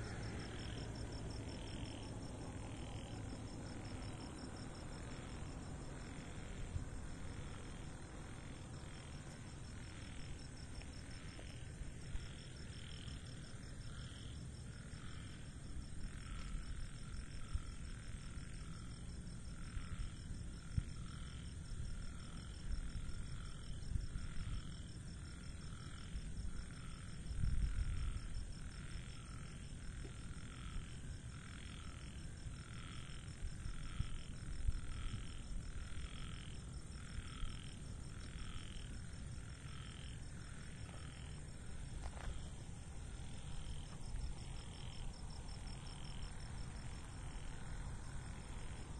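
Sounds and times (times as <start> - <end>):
pulsing insect trill: 0.0 - 48.9.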